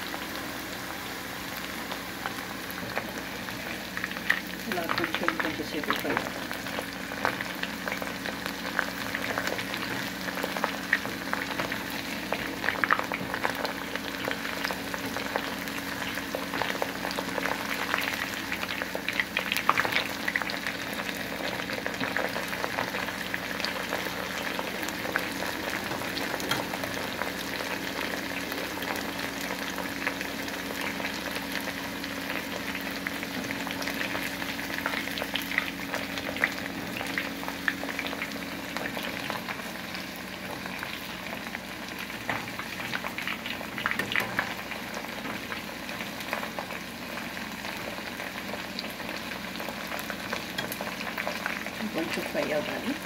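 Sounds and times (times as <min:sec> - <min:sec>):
chicken deep-frying in oil: 0:00.0 - 0:53.0.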